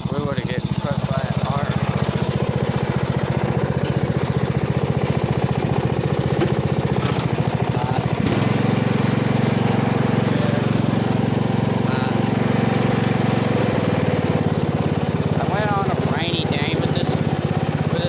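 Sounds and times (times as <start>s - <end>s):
riding lawn mower engine running: 0.0s - 18.0s.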